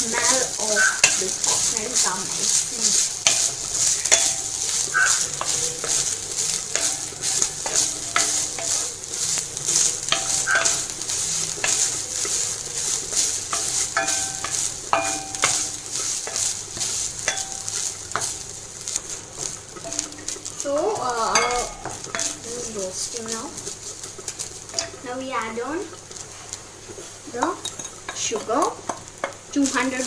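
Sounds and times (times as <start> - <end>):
utensil scraping and clinking pan: 0.0 - 25.0, 27.4 - 30.0
coconut sizzling in a pan: 0.0 - 30.0.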